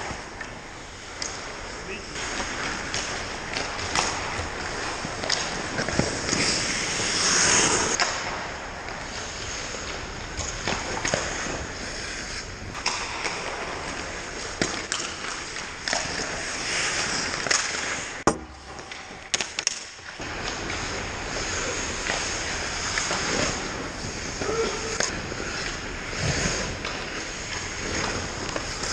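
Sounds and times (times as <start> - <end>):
hockey sticks and puck clacking: 0.0 - 28.9
skate blades scraping ice: 0.1 - 28.9.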